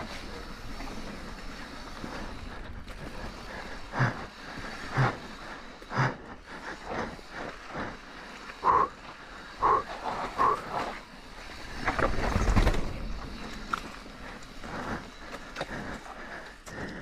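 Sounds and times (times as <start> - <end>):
bike rattling: 0.0 - 17.0
bike tyres rolling over dirt and rock: 0.0 - 17.0.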